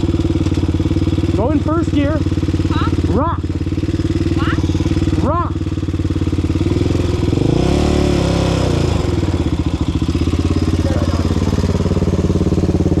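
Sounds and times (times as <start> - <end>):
quad engine revving: 0.0 - 13.0.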